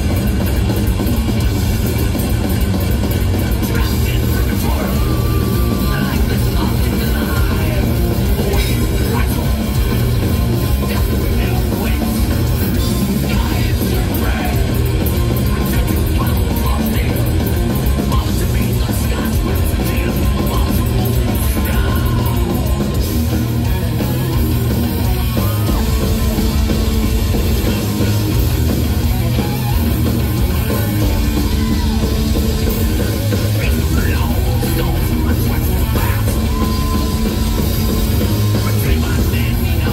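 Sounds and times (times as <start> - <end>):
heavy metal band playing live: 0.0 - 39.9
singer shouting: 3.6 - 17.4, 18.0 - 23.0, 24.7 - 28.4, 29.1 - 39.9.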